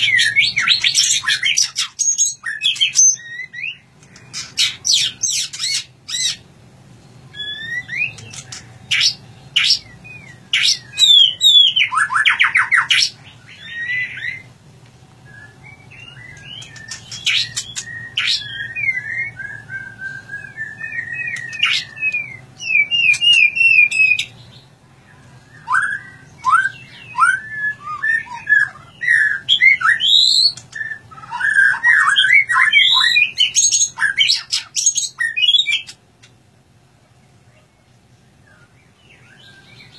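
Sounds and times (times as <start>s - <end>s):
songbird whistles and trills: 0.0s - 6.4s, 7.2s - 14.5s, 15.2s - 36.3s, 37.6s - 39.9s.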